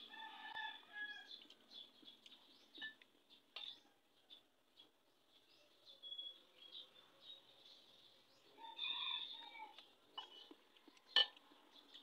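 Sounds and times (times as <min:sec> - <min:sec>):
faint bird chirps: 0:01.0 - 0:11.2.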